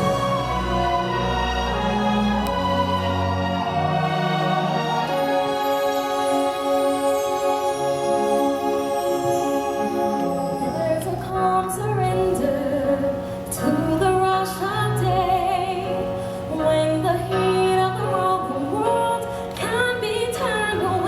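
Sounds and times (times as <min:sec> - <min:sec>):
instrumental backing: 0:00.0 - 0:21.0
woman singing with vibrato: 0:03.0 - 0:21.0.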